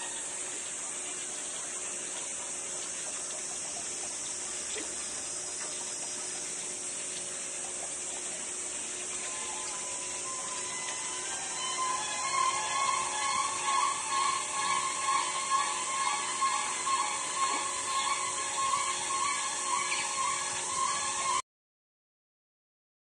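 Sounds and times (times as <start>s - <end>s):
high-pitched outdoor hiss: 0.0s - 21.4s.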